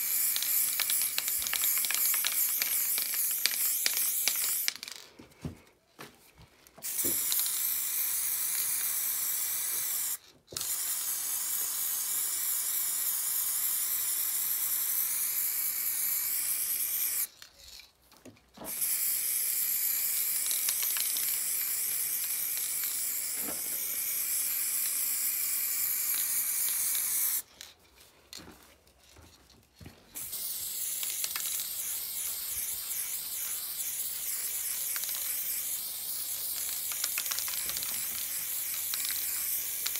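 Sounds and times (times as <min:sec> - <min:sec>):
spray paint can hissing: 0:00.0 - 0:05.0, 0:06.8 - 0:17.7, 0:18.7 - 0:27.7, 0:30.2 - 0:39.9.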